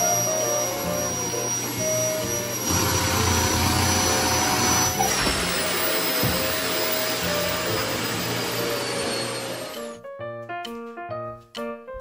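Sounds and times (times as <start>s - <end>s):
vacuum cleaner whining: 0.0s - 10.0s.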